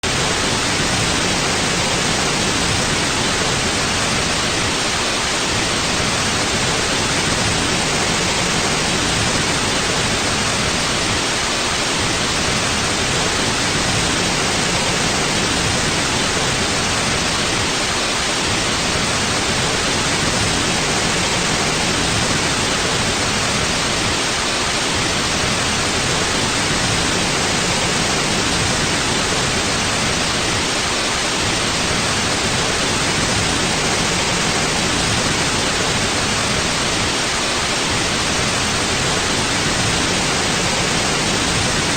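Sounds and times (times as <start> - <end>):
white noise hiss: 0.0 - 41.9.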